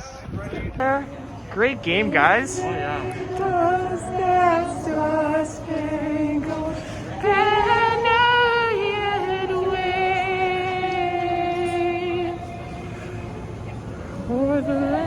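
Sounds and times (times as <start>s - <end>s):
woman singing with vibrato: 0.8s - 1.4s, 2.0s - 15.0s
music: 1.1s - 15.0s.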